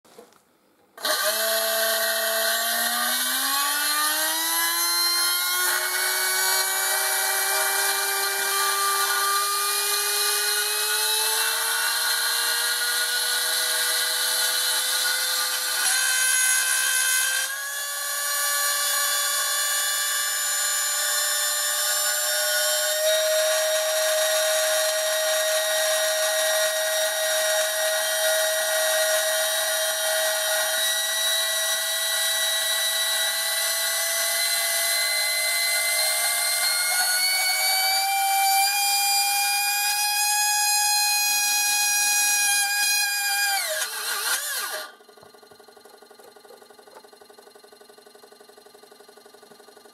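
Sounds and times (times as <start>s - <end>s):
small electric motor whining: 1.0s - 49.9s.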